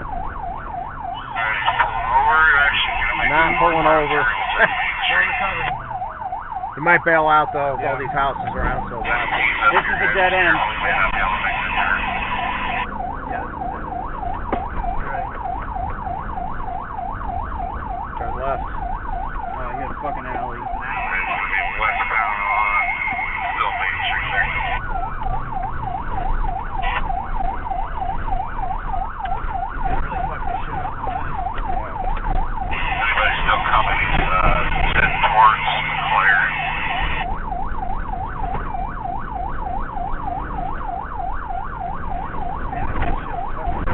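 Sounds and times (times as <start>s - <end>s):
car engine and road noise: 0.0s - 43.9s
faint slower siren: 0.0s - 43.9s
police siren fast yelp: 0.0s - 43.9s.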